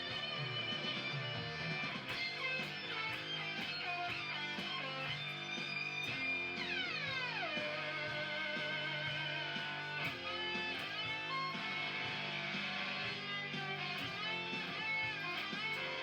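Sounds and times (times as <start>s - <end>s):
fuzzed electric guitar: 0.0s - 16.0s.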